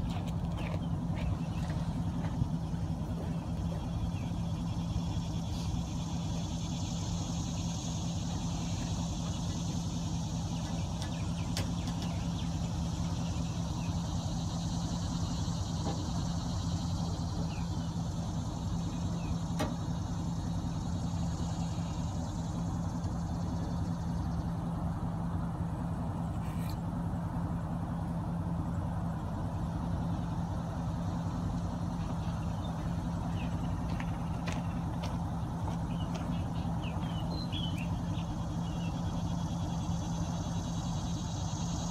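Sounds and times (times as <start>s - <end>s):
vehicle engine running: 0.0s - 41.9s.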